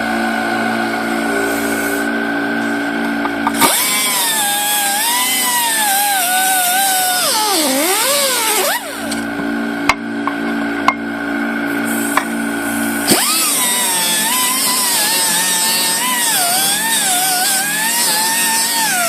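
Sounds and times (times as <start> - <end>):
pneumatic die grinder whining: 0.0 - 9.4, 11.8 - 19.0
compressor pulsing hum: 0.0 - 19.0.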